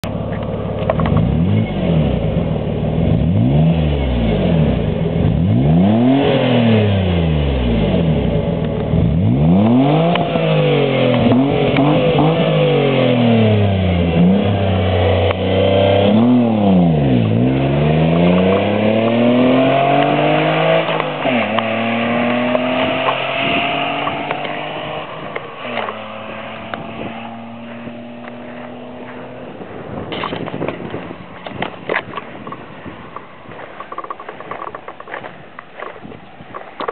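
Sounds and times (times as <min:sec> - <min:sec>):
car engine revving: 0:00.0 - 0:34.7.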